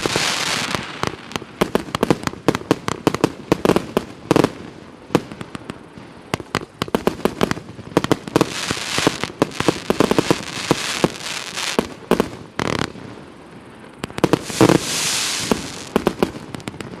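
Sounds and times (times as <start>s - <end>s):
fireworks bangs: 0.0s - 4.6s, 5.2s - 13.2s, 14.0s - 17.0s
fireworks crackling: 0.0s - 17.0s.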